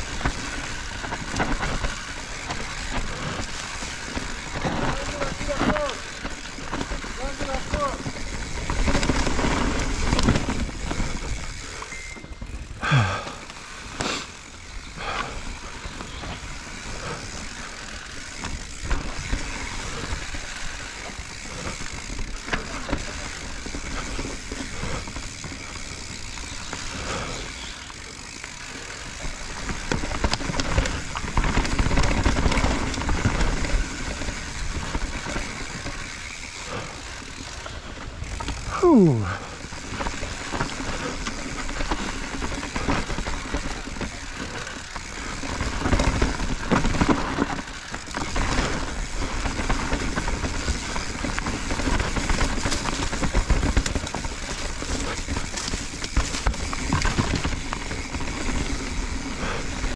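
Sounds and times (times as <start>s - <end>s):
bike rattling: 0.0s - 59.9s
bike tyres rolling over dirt: 0.0s - 59.9s.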